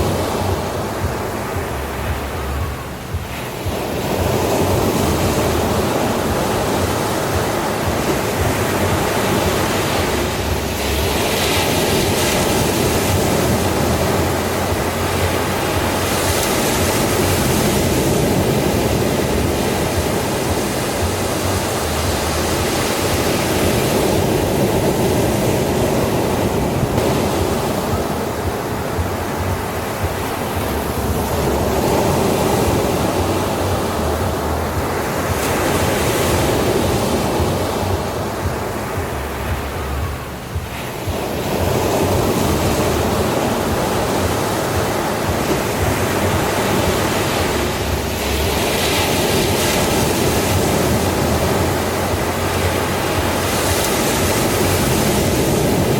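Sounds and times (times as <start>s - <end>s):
ocean waves washing in: 0.0s - 55.9s.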